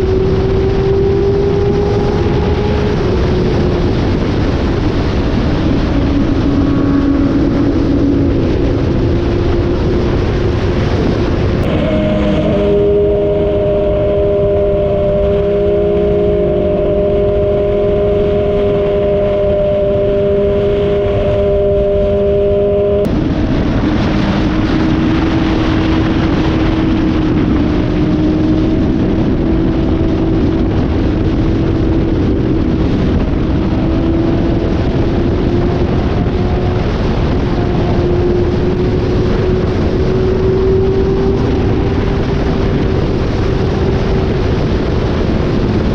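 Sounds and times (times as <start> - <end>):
loud rushing noise: 0.0 - 45.9
motorcycle engine running: 0.0 - 45.9.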